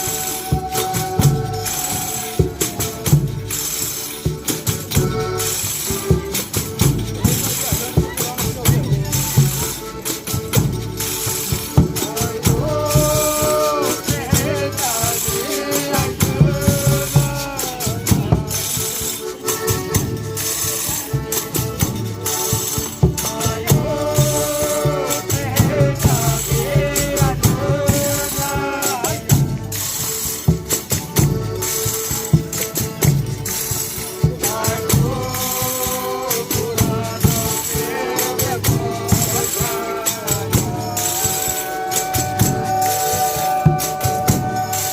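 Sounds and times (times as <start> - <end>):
tambourine and shaken rattles: 0.0 - 44.9
voices singing: 0.0 - 44.9.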